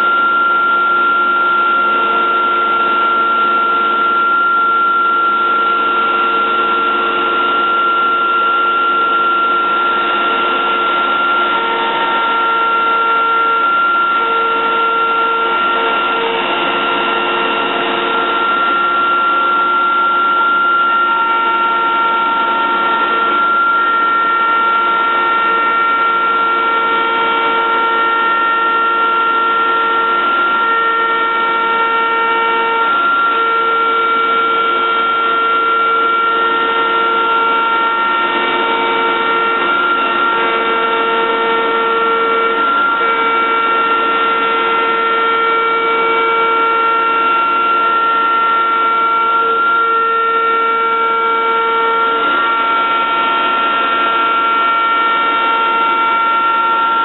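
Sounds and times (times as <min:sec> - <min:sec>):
router spindle cutting whine: 0:00.0 - 0:57.0.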